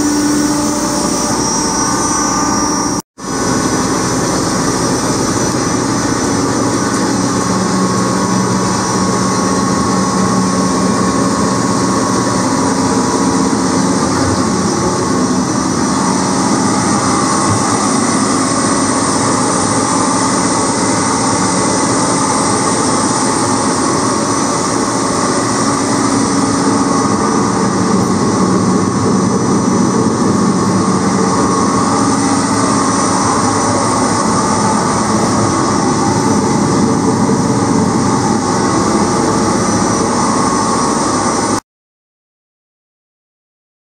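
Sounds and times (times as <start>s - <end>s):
mixer motor humming: 0.0s - 41.6s.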